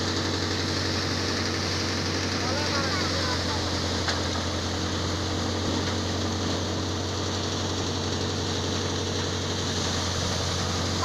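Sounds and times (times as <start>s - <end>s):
threshing machine running: 0.0s - 11.0s.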